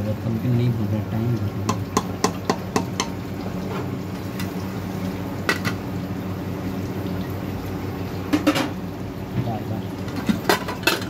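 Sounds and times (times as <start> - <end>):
curry bubbling: 0.0 - 11.0.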